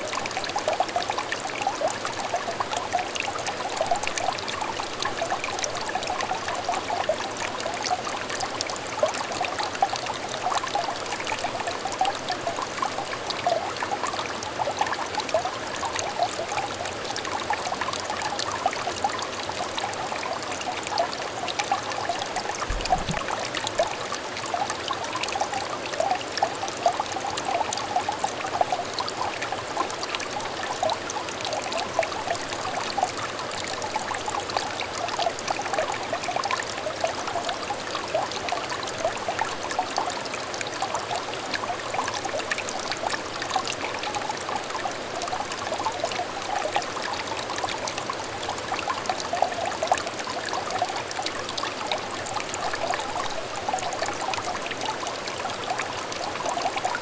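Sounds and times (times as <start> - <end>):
stream water babbling: 0.0 - 57.0.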